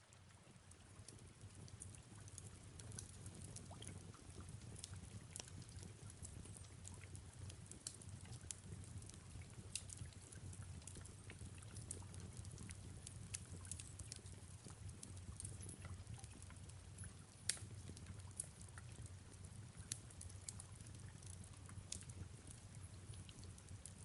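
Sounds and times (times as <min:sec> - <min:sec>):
soft rain: 0:00.0 - 0:24.0
fireplace crackling and popping: 0:00.1 - 0:24.0.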